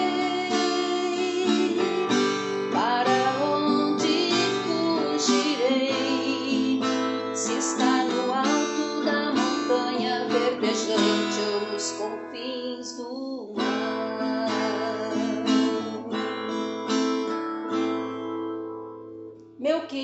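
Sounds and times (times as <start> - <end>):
slow acoustic guitar strumming: 0.0 - 19.5.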